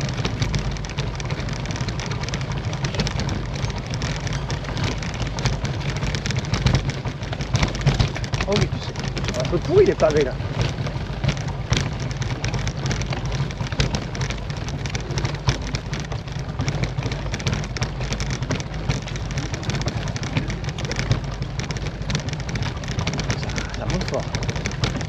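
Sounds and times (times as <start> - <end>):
bike clattering over cobblestones: 0.0 - 25.0.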